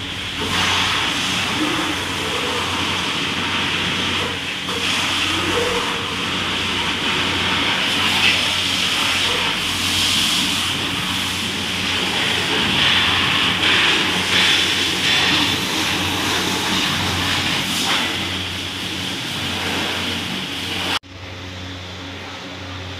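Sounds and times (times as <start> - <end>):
pressure washer spraying water: 0.0 - 21.0
steady low hum: 0.0 - 22.9.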